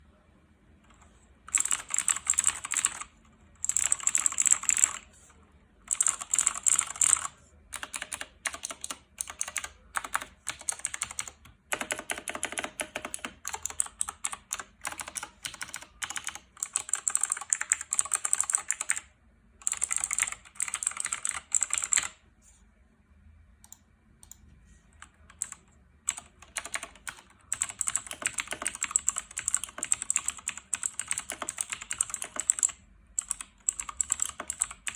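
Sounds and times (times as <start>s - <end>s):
mechanical keyboard typing: 0.9s - 5.1s, 5.9s - 22.2s, 25.0s - 34.9s.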